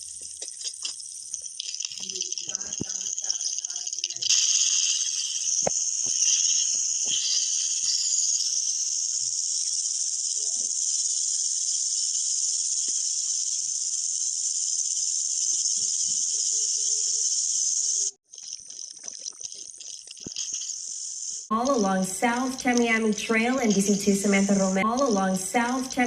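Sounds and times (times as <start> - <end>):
steady high-pitched hiss: 0.0 - 18.2, 19.8 - 26.0.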